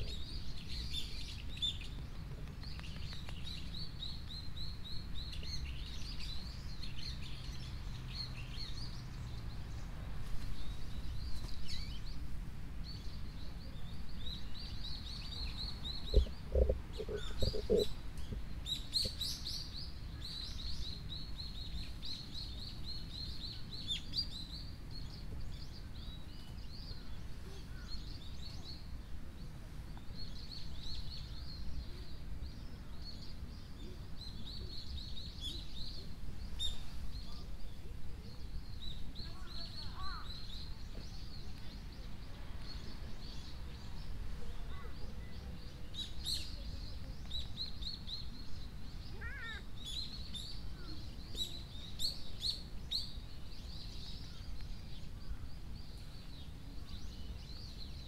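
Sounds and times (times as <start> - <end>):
low outdoor background rumble: 0.0 - 58.0
small birds chirping: 0.0 - 58.0.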